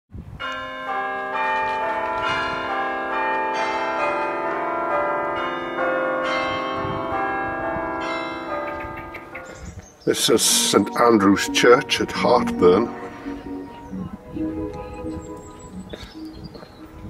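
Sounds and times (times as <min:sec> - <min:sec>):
church bells ringing: 0:00.4 - 0:17.0.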